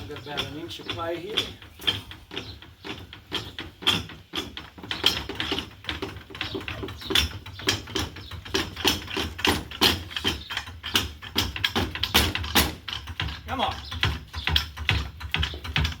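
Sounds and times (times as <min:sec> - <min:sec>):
mechanical clicks and knocks: 0:00.0 - 0:16.0.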